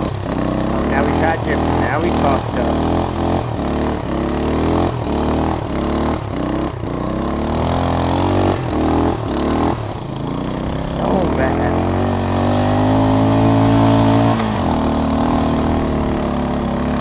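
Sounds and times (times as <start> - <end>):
quad bike engine revving: 0.0 - 17.0.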